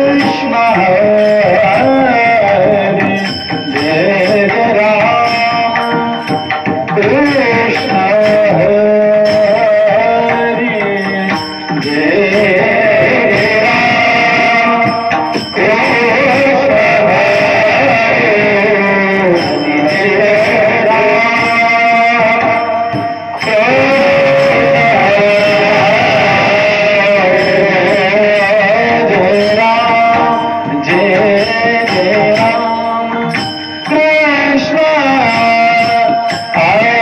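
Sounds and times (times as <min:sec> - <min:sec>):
drum strokes: 0:00.0 - 0:37.0
man singing devotional song: 0:00.0 - 0:37.0.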